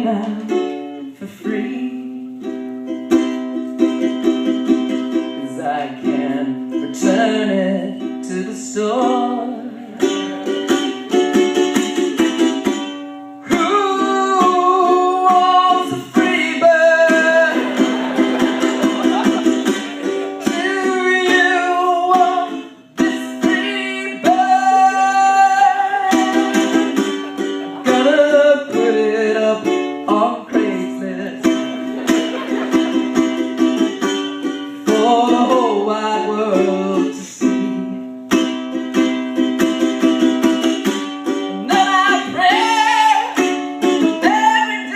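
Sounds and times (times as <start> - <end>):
person singing: 0.0 - 2.5, 5.1 - 10.6, 13.4 - 38.1, 41.3 - 44.9
ukulele strumming: 0.0 - 44.9.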